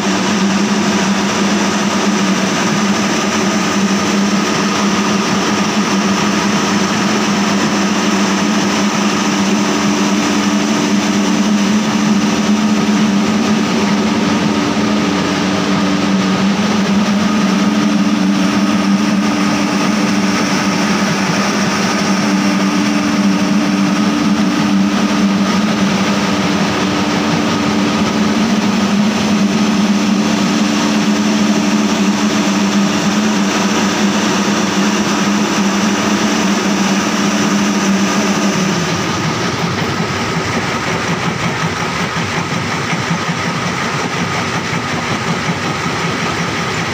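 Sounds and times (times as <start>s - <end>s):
mist fan blowing: 0.0s - 46.9s.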